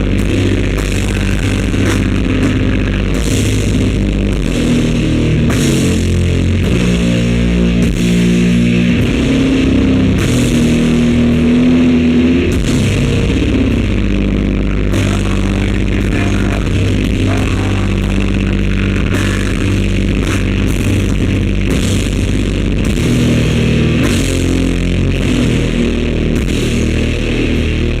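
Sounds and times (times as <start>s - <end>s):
heavy rock band playing: 0.0s - 28.0s.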